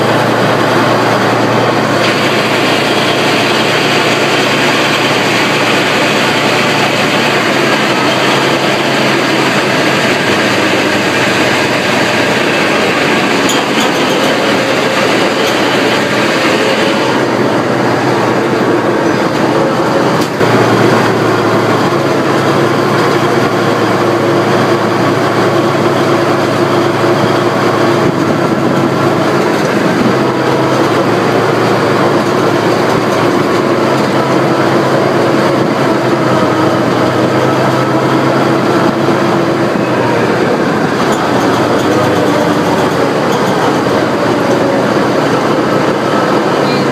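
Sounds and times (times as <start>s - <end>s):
tank engine and tracks clattering: 0.0s - 46.9s.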